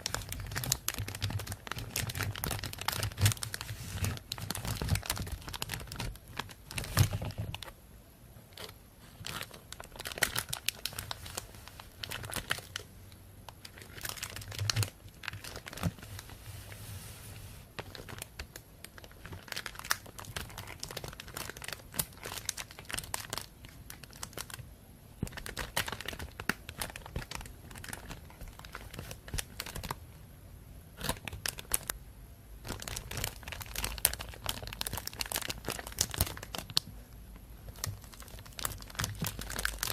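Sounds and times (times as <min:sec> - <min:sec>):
plastic bag crinkling: 0:00.0 - 0:07.7, 0:08.6 - 0:12.9, 0:13.5 - 0:16.7, 0:17.8 - 0:24.6, 0:25.2 - 0:30.0, 0:31.0 - 0:32.0, 0:32.6 - 0:36.9, 0:37.7 - 0:39.9.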